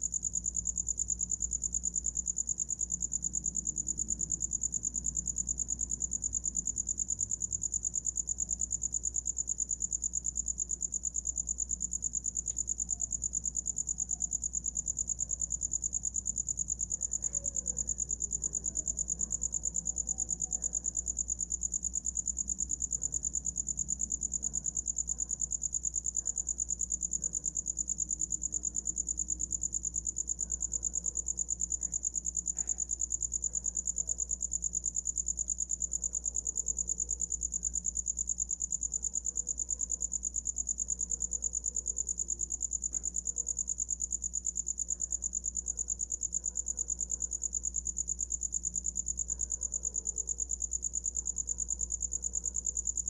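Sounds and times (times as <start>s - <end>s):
cricket trilling: 0.0s - 53.0s.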